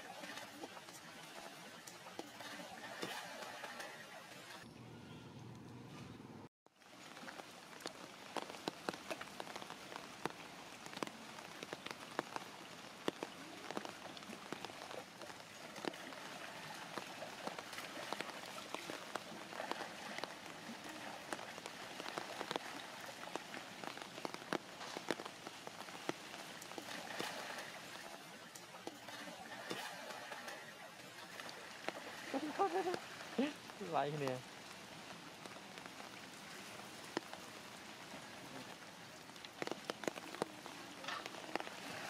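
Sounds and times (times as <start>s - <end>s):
rain on water: 0.0s - 4.7s, 6.6s - 42.0s
monkeys splashing through water: 7.0s - 42.0s.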